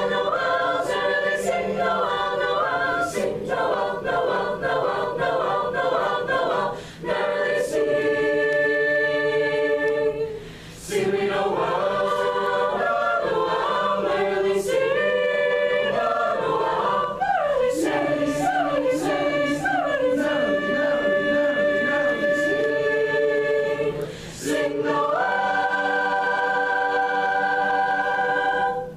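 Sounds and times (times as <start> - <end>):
choir singing a cappella: 0.0 - 28.9.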